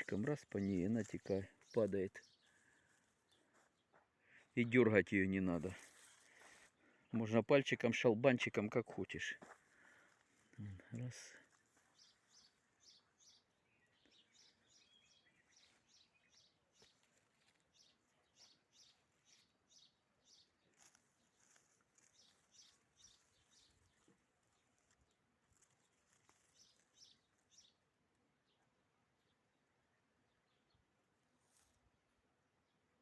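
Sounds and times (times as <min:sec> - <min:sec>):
songbird chirping: 0:00.0 - 0:33.0.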